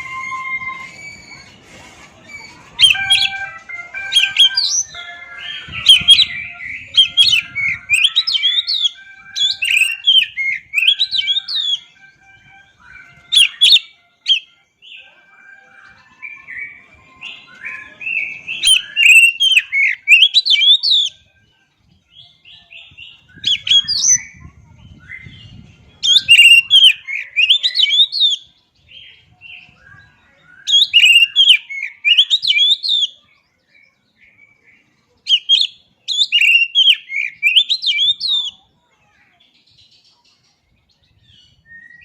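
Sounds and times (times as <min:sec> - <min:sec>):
bird singing whistled song: 0:00.0 - 0:01.6, 0:02.2 - 0:38.7, 0:39.6 - 0:42.0.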